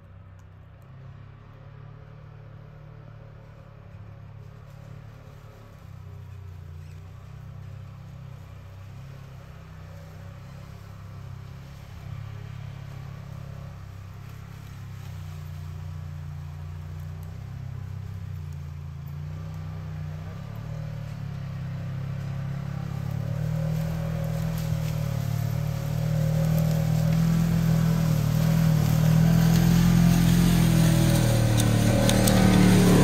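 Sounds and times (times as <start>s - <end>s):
off-road vehicle engine at low revs: 0.0s - 33.0s.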